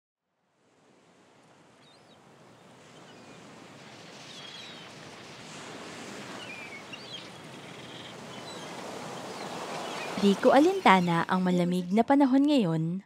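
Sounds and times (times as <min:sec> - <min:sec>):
surf washing: 0:00.6 - 0:11.6.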